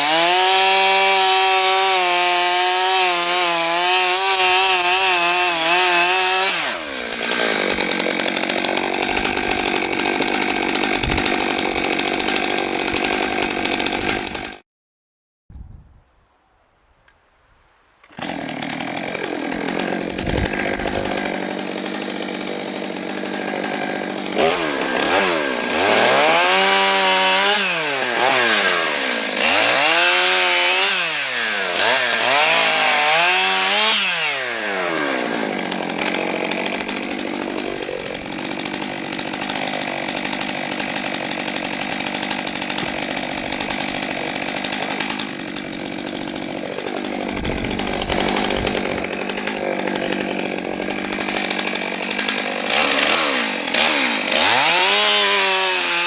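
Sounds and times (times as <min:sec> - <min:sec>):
chainsaw engine revving: 0:00.0 - 0:14.6, 0:18.2 - 0:56.0.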